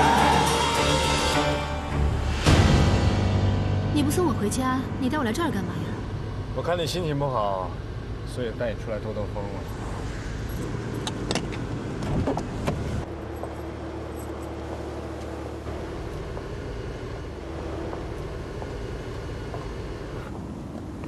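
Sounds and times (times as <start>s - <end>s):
low hum of vehicle noise: 3.2s - 21.0s.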